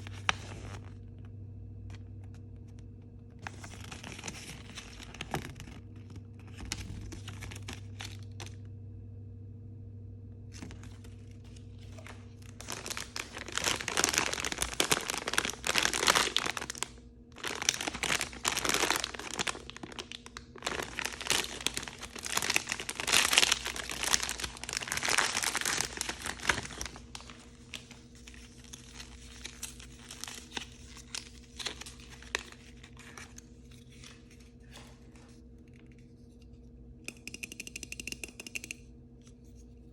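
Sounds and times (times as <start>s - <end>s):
plastic packaging crinkling and tearing: 0.0s - 1.1s, 3.4s - 8.7s, 10.5s - 36.2s.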